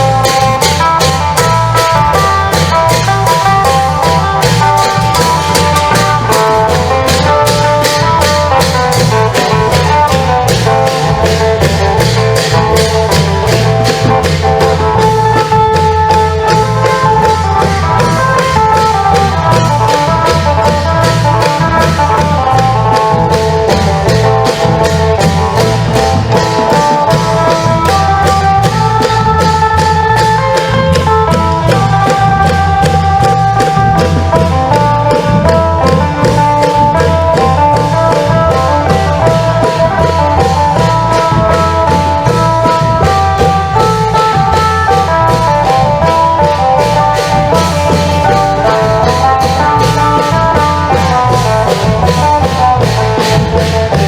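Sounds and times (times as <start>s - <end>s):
long drums and percussion beat: 0.0s - 54.0s.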